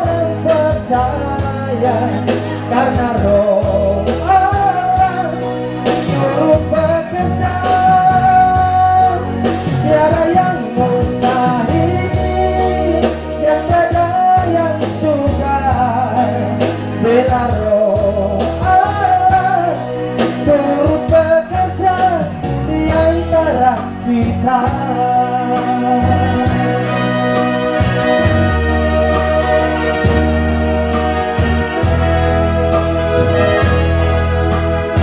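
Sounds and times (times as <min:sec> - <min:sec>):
man singing into microphone: 0:00.0 - 0:28.3
electronic keyboard accompaniment: 0:00.0 - 0:35.0
steady bass line: 0:00.0 - 0:35.0.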